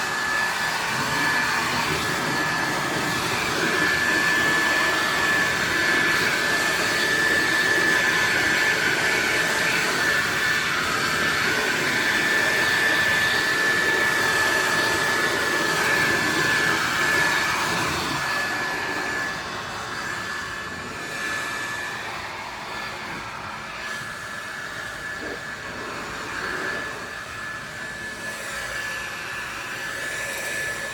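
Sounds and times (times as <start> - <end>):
pressure washer whine: 0.0 - 30.9.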